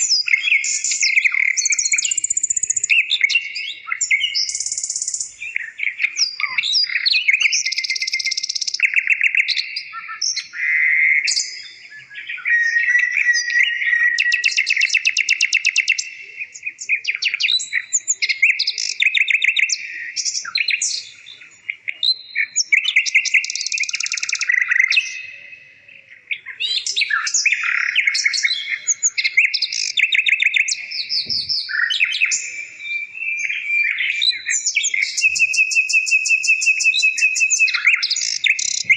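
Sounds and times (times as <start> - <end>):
bird chirping and trilling: 0.0 - 38.9.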